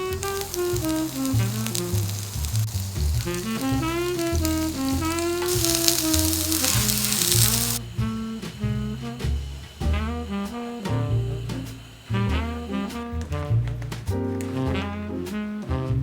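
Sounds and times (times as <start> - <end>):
food sizzling in a pan: 0.0 - 13.1
jazz music with horn melody: 0.0 - 16.0.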